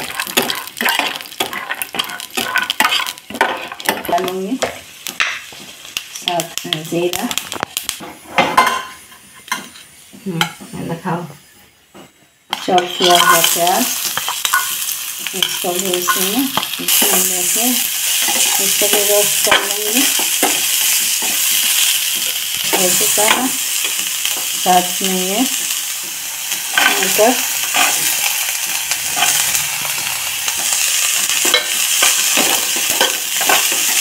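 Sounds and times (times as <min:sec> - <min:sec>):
hot oil sizzling: 0:00.0 - 0:34.0.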